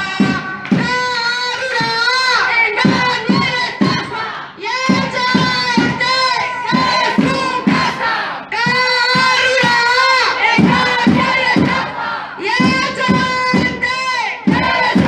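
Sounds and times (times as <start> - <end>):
crowd chanting in unison: 0.0 - 15.0
rhythmic drum thumps: 0.0 - 15.0.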